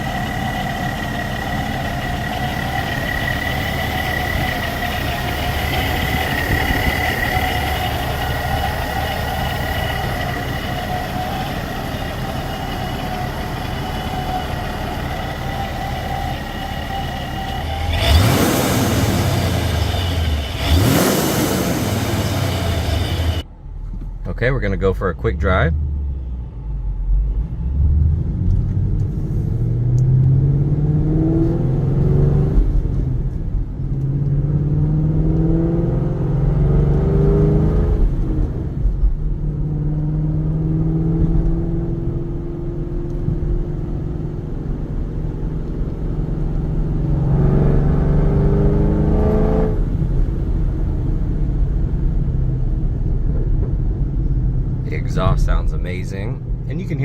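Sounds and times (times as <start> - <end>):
car engine accelerating: 0.0 - 57.0
supercharger whine: 0.0 - 57.0.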